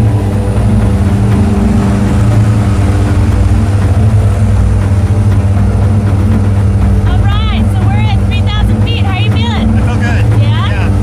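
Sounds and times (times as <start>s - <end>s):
propeller engines droning: 0.0s - 11.0s.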